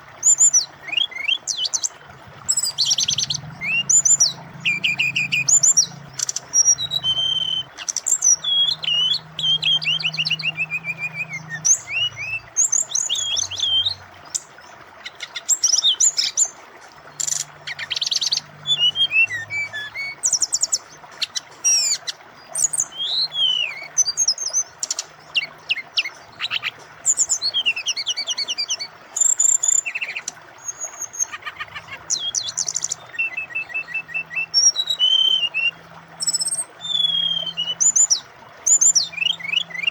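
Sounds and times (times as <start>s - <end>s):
bird singing: 0.0s - 39.9s
flowing water rushing: 0.0s - 39.9s.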